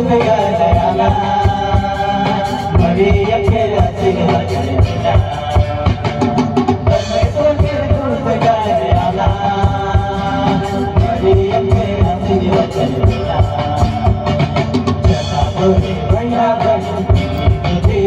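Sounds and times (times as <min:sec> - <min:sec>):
acoustic guitar: 0:00.0 - 0:18.0
group singing through microphones: 0:00.0 - 0:18.0
steady drum beat: 0:00.0 - 0:18.0.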